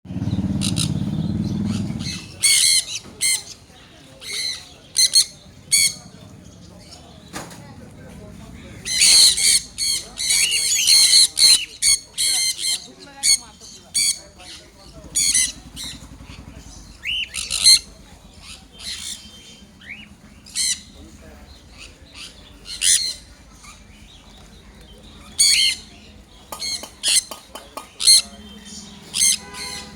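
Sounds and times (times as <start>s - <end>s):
birds squawking: 0.1s - 29.9s.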